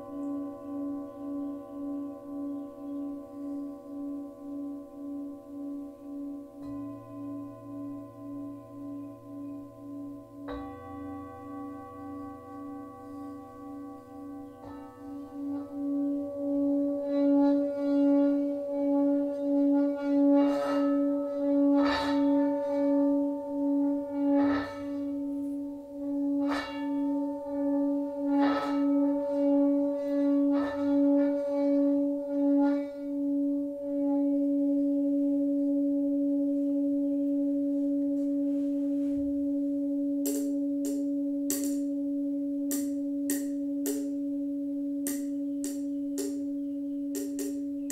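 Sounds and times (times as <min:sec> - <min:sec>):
low singing bowl humming: 0:00.0 - 0:47.9
singing bowls struck and ringing: 0:00.0 - 0:47.9.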